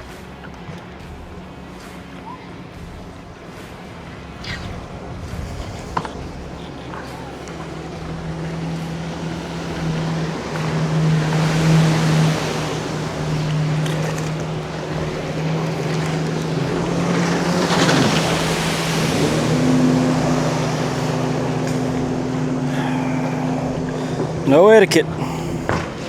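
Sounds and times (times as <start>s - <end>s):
jet ski engines droning: 0.0s - 26.0s
rushing water: 0.0s - 26.0s.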